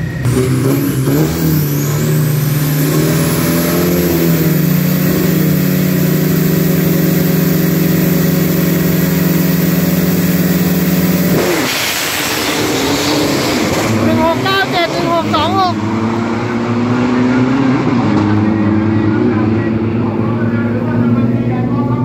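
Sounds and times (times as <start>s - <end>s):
truck engines revving high: 0.0s - 22.0s
vehicles launching with rush of noise: 0.0s - 22.0s.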